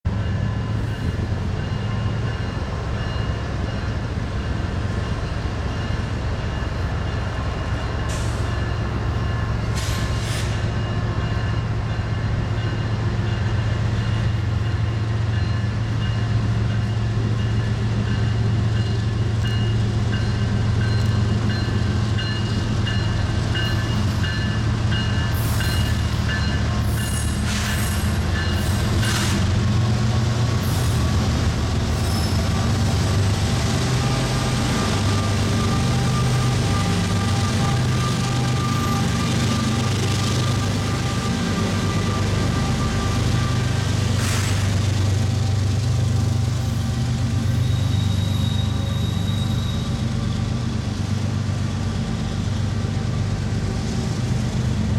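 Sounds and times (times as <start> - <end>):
locomotive engines droning: 0.1 - 54.9.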